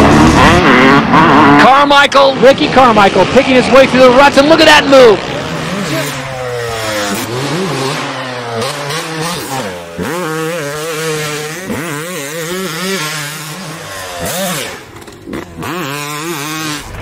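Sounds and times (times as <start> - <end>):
two-stroke motorbike engine revving: 0.0 - 17.0.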